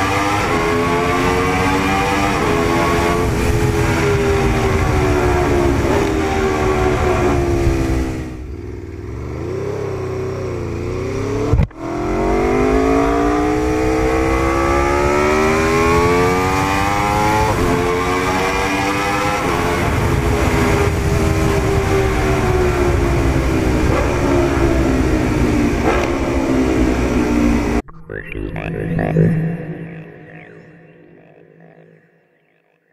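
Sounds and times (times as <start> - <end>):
motorcycle engine accelerating: 0.0 - 27.8.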